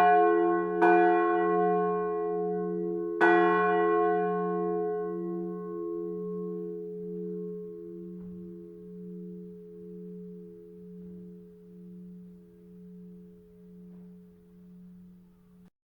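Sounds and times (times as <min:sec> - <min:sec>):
church bell hum: 0:00.0 - 0:15.7.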